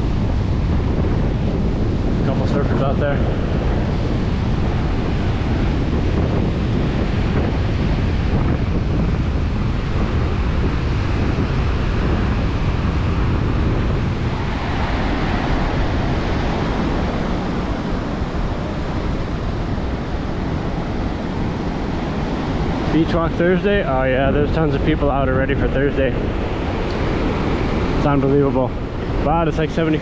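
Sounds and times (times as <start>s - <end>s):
ocean surf breaking: 0.0s - 30.0s
wind noise on microphone: 0.0s - 30.0s.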